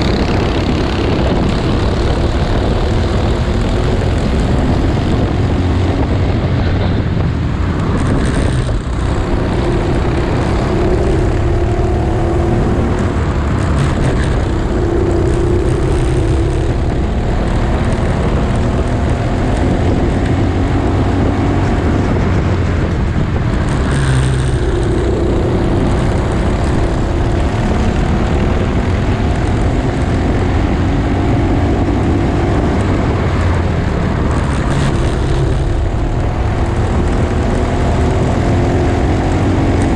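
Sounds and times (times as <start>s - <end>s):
kart engine racing: 0.0s - 39.9s
steady rushing noise: 0.0s - 39.9s.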